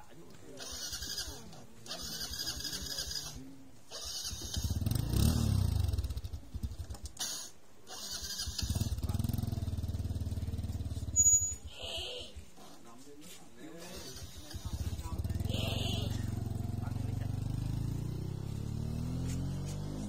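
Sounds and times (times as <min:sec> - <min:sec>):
motorcycle engine revving: 0:00.5 - 0:12.1, 0:13.8 - 0:20.0.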